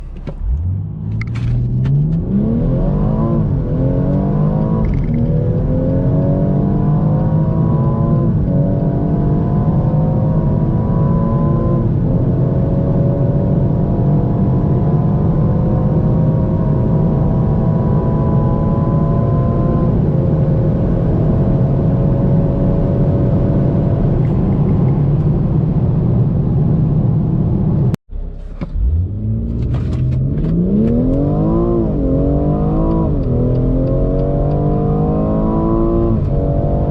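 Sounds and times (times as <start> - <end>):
car engine accelerating hard: 0.0 - 24.7, 28.5 - 36.9.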